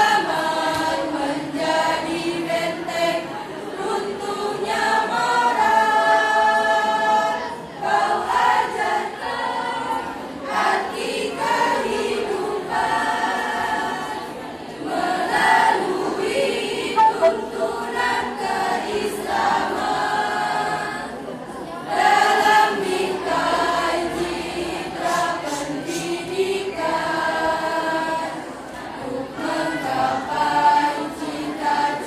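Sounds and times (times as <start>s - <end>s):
choir singing a hymn: 0.0s - 32.0s.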